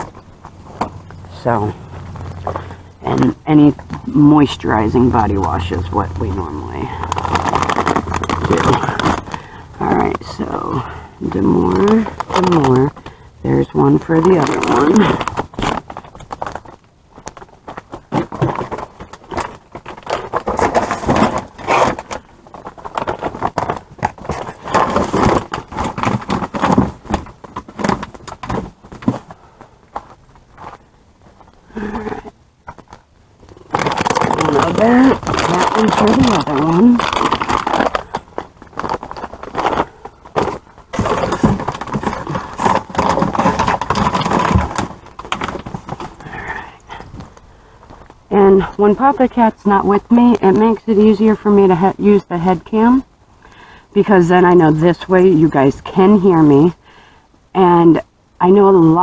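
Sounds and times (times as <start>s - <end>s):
packaged items rustling and clattering: 0.0s - 53.5s.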